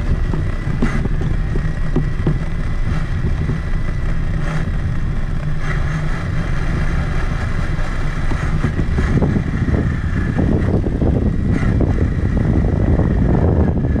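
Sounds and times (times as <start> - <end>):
electric motor whine: 0.0 - 14.0
low rumble: 0.0 - 14.0
tyres crackling on rough ground: 0.0 - 14.0.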